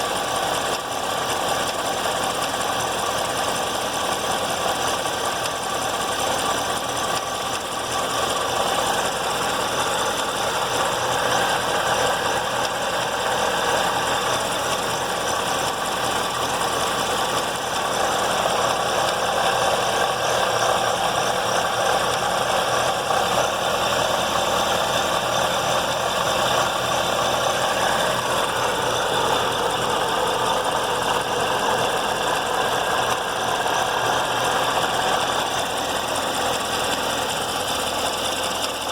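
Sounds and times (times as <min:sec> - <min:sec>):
car engine running: 0:00.0 - 0:38.9
tapping knocking in engine: 0:00.1 - 0:38.9.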